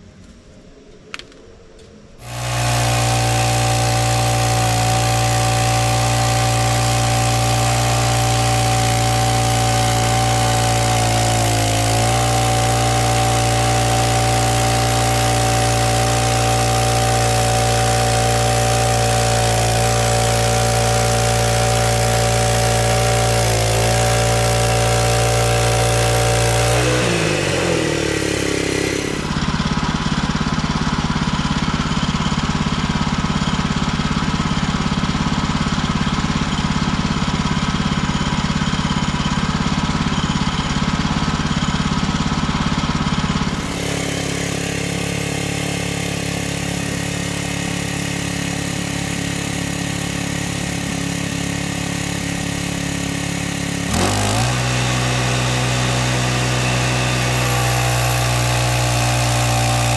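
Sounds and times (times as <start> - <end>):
band sawmill cutting log: 2.2 - 59.9.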